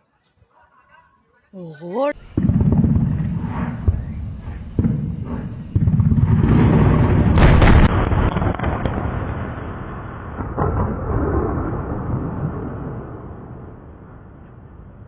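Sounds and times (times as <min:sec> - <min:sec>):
explosion blast with rumble: 0:02.2 - 0:15.0
weaker explosion bang: 0:02.2 - 0:15.0.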